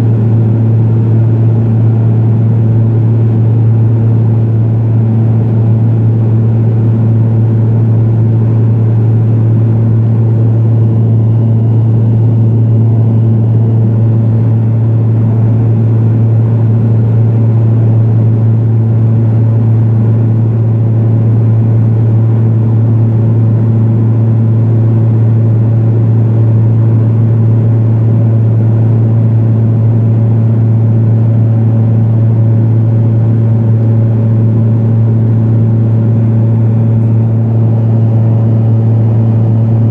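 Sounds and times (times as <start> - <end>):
turboprop engine drone: 0.0 - 39.9.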